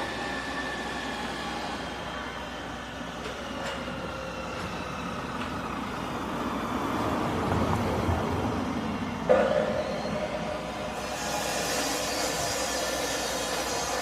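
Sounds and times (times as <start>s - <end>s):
steady road noise: 0.0s - 14.0s.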